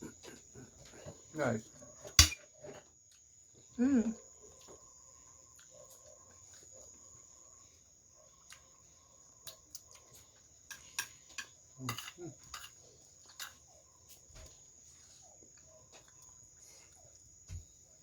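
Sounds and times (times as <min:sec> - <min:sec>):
crickets chirring: 0:00.0 - 0:18.0.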